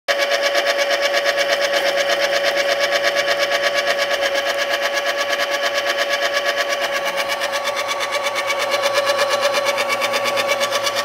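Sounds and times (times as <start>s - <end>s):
coffee grinder motor pulsing: 0.1s - 11.0s.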